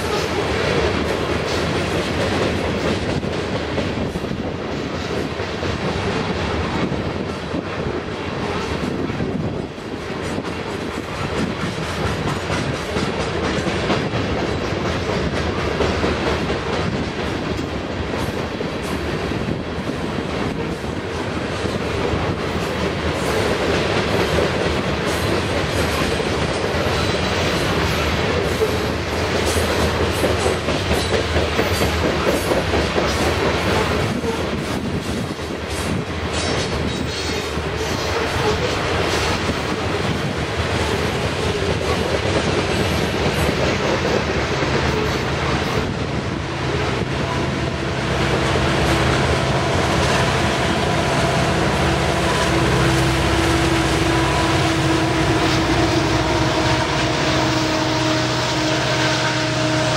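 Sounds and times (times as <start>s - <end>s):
train wheels clickety-clack: 0.0s - 57.8s.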